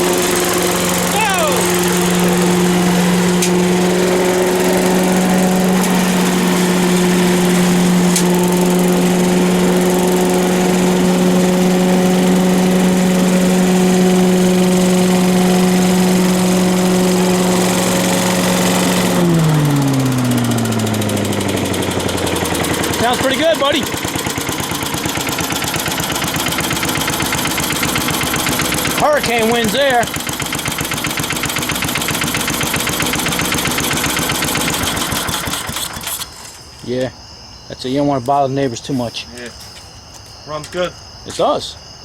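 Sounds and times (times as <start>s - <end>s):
small engine running at high speed: 0.0s - 36.5s.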